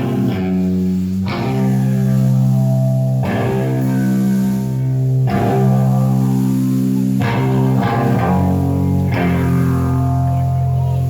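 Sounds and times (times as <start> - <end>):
guitar playing ringing chords: 0.0 - 11.0.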